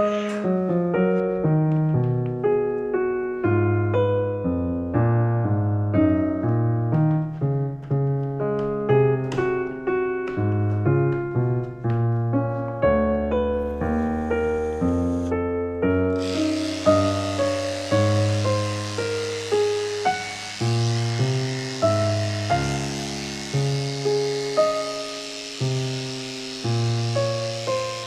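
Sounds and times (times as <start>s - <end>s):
calm piano music: 0.0s - 28.0s.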